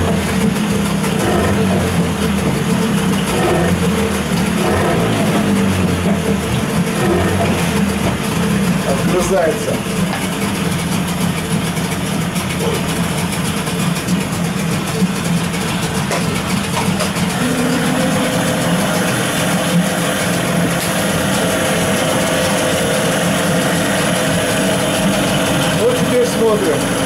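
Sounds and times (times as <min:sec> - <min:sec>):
outboard motor idling: 0:00.0 - 0:27.0.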